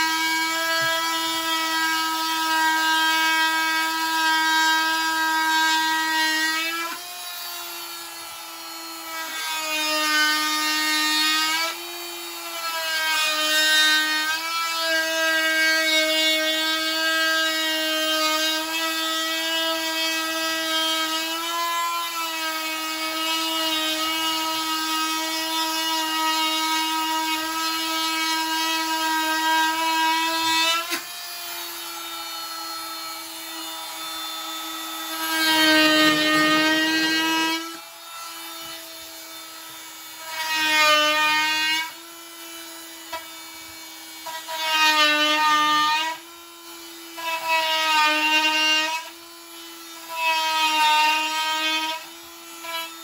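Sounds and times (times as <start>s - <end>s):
power tool cutting countertop: 0.0s - 53.0s
power tool motor whine: 0.0s - 53.0s.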